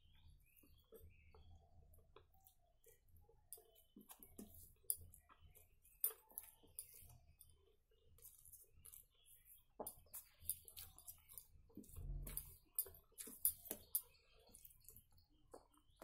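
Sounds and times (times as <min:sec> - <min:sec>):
chewing: 0:00.1 - 0:16.0.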